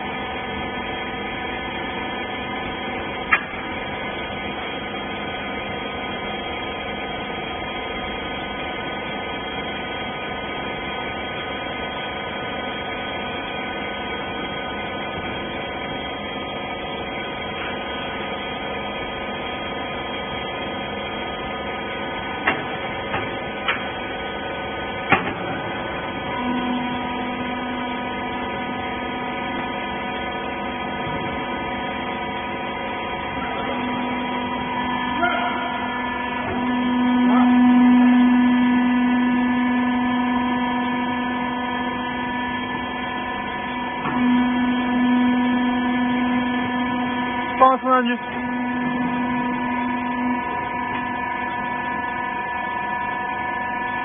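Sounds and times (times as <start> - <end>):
hydraulic power unit humming: 0.0 - 54.0.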